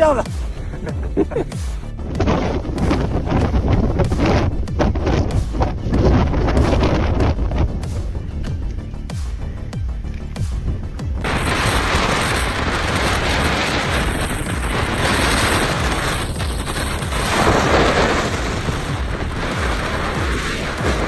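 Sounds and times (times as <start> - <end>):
strong wind buffeting microphone: 1.8 - 21.0.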